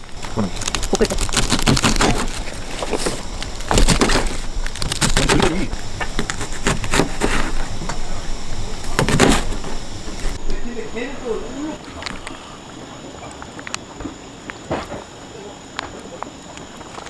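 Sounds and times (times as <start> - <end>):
faint voices: 0.0 - 17.0.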